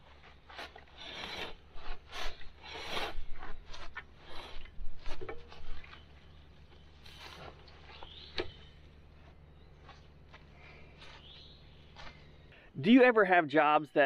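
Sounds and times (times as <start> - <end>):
metal axle scraping over dirt: 0.0 - 12.6.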